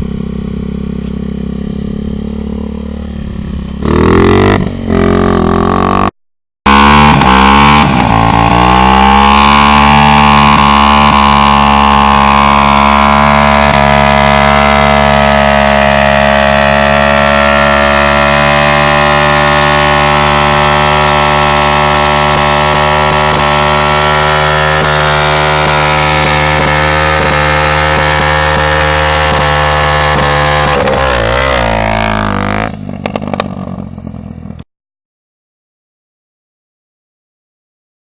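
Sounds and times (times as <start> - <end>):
two-stroke motorcycle engine revving: 0.0 - 34.3.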